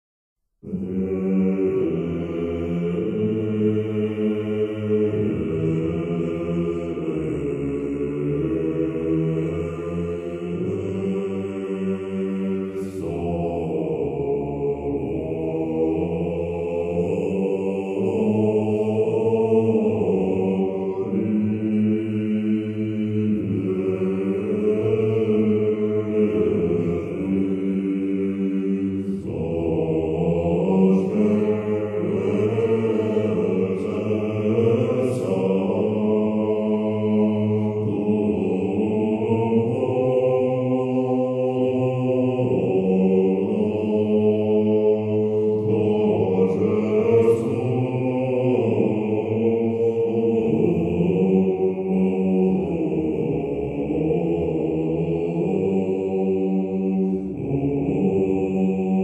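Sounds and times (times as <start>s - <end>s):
slow droning chant: 0.5s - 59.0s.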